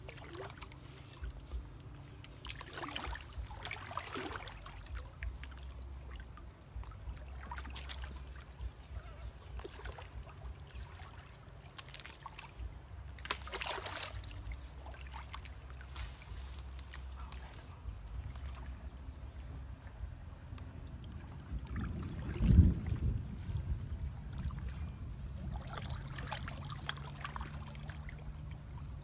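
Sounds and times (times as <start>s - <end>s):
steady low rumble: 0.0s - 29.0s
stream water splashing: 0.0s - 29.0s.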